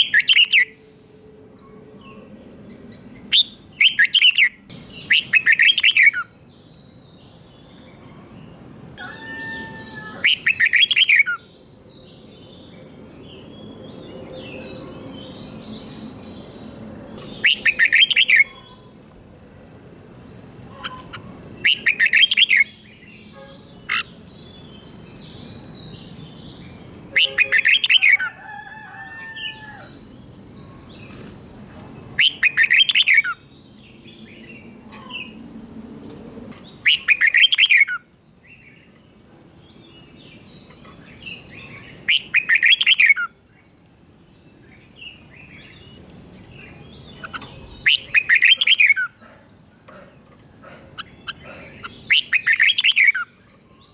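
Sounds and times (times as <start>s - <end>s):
bird singing loud phrase: 2.9s - 19.0s, 20.7s - 31.2s, 36.6s - 53.9s.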